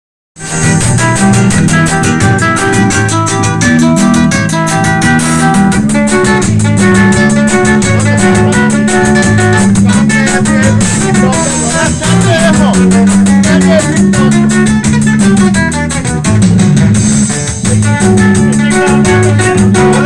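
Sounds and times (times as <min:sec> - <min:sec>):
band music with plucked guitars: 0:00.4 - 0:20.0.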